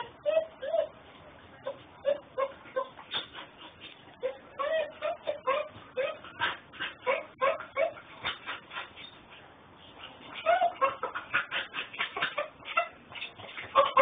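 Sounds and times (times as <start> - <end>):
puppy whining: 0.0 - 14.0.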